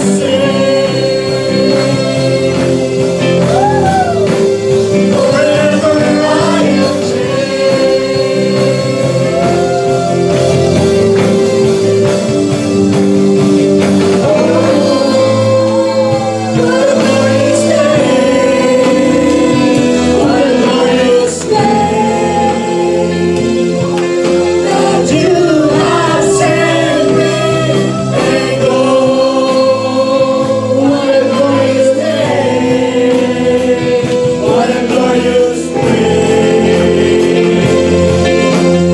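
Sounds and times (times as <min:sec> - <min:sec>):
instrumental accompaniment: 0:00.0 - 0:38.9
voices singing gospel song: 0:00.0 - 0:38.9.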